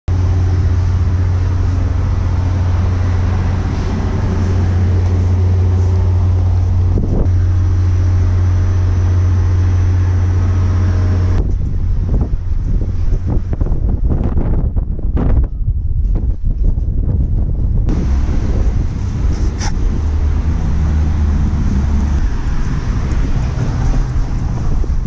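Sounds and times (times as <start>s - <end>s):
vehicle engine running: 0.1s - 14.9s, 17.3s - 25.0s
wind buffeting microphone: 0.1s - 25.0s.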